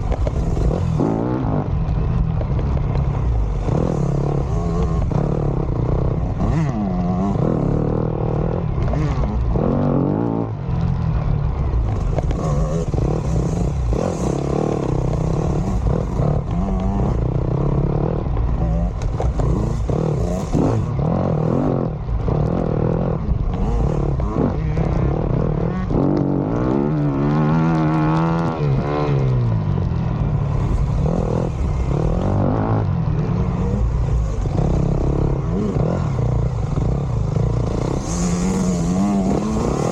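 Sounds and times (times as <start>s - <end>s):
dirt bike engine revving: 0.0s - 29.6s, 30.3s - 39.9s
clatter from rough ground: 0.0s - 39.9s.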